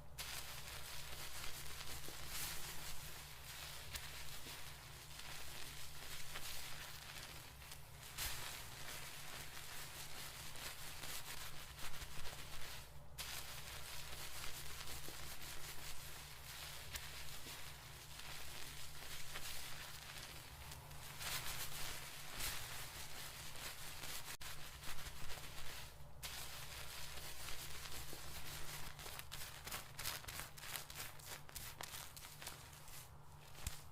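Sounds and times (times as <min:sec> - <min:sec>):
fingers rubbing hair on scalp: 0:00.2 - 0:33.9.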